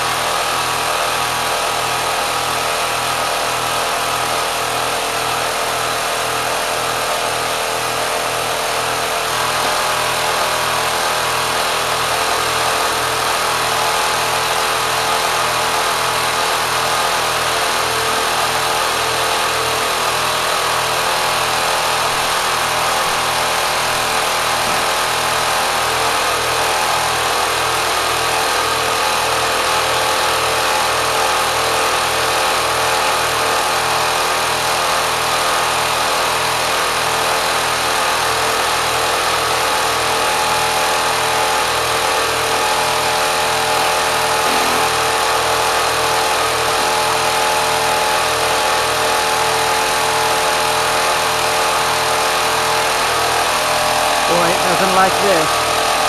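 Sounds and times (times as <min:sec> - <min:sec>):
sewing machine running fast: 0:00.0 - 0:56.0.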